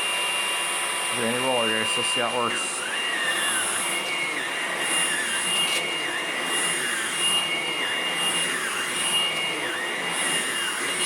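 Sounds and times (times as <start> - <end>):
vacuum cleaner running: 0.0 - 11.0
wavering whine: 0.0 - 11.0.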